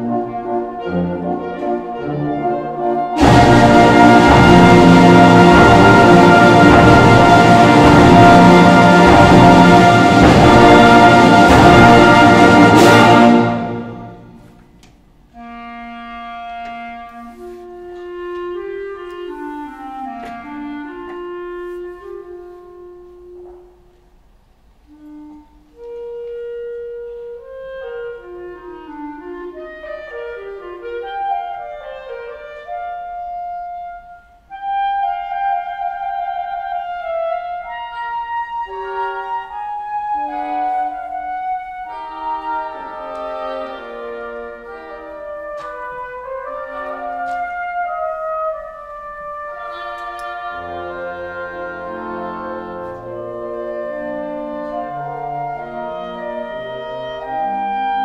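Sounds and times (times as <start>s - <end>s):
solo clarinet melody: 0.0s - 58.0s.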